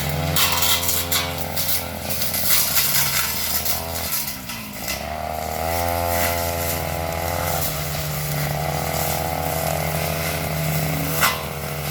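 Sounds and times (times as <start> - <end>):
brush cutter engine running: 0.0 - 11.9.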